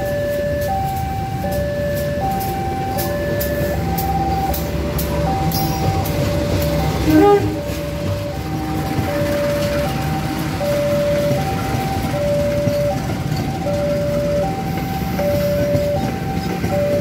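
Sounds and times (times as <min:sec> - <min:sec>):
locomotive rumbling past: 0:00.0 - 0:17.0
train wheels clacking on track: 0:00.0 - 0:17.0
two-tone level crossing alarm: 0:00.0 - 0:17.0.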